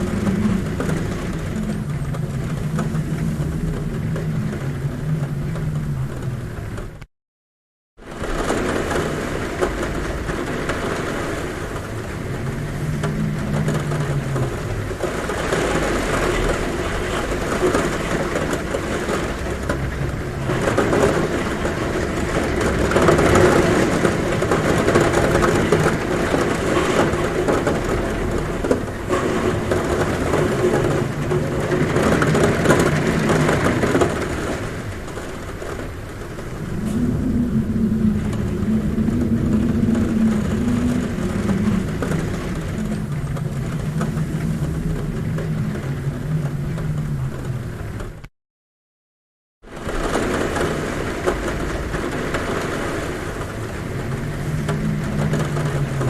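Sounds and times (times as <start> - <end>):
low wavering wind hum: 0.0 - 7.0, 8.1 - 48.2, 51.7 - 56.0
heavy rain drumming on a roof: 0.0 - 7.1, 8.0 - 48.3, 49.6 - 56.0
wind humming at a window: 0.0 - 7.1, 8.0 - 48.3, 49.7 - 56.0.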